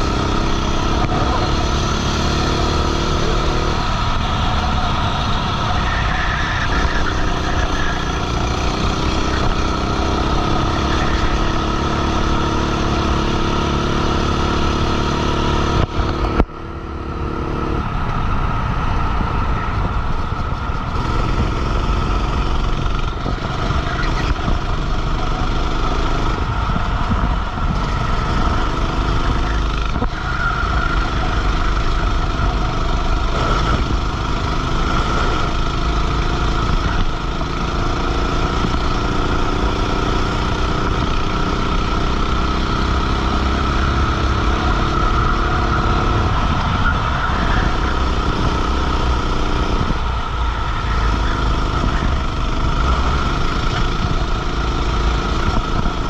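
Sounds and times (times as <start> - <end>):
kart engine revving: 0.0 - 56.0
steady rush of noise: 0.0 - 56.0.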